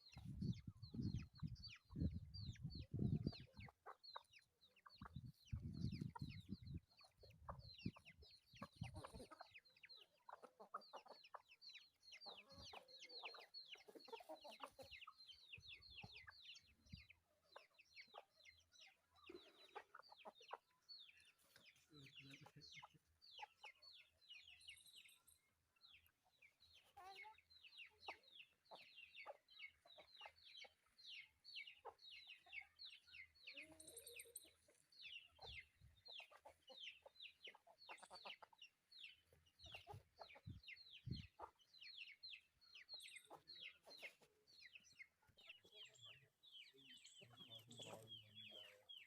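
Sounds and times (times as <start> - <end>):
chickens clucking: 0.0 - 49.0
chicks peeping: 0.0 - 49.0.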